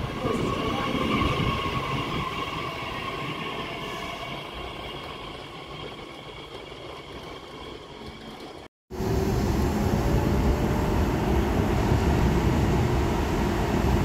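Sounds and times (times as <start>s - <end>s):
train wheels running on rails: 0.0s - 14.0s.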